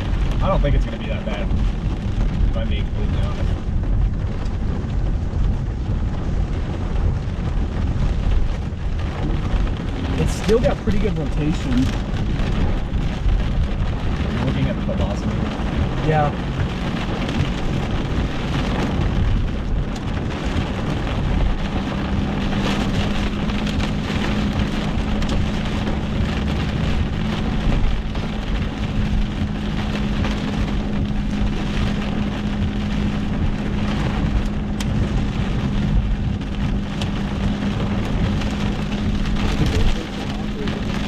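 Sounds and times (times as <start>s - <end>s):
heavy rain on car roof: 0.0s - 41.0s
tyre and road noise: 0.0s - 41.0s.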